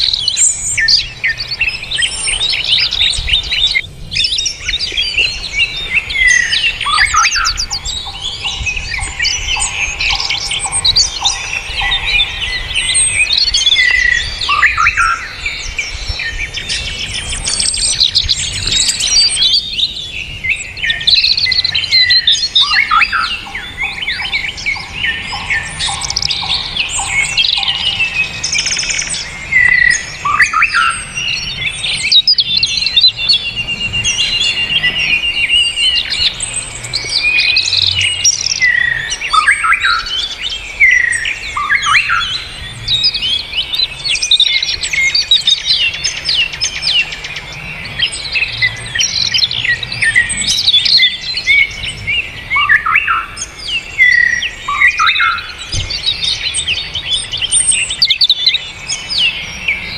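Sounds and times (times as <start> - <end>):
rapid bird trill: 0.0 - 59.9
songbirds chorus singing: 0.0 - 59.9.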